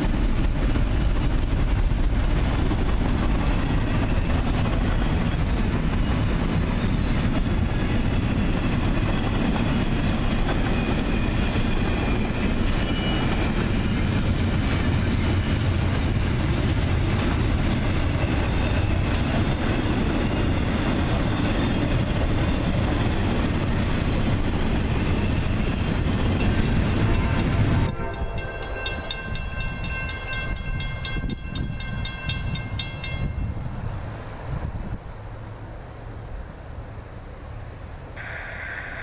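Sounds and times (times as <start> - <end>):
clickety-clack of rail joints: 0.0 - 33.7
train wheels rumbling on rails: 0.0 - 39.0.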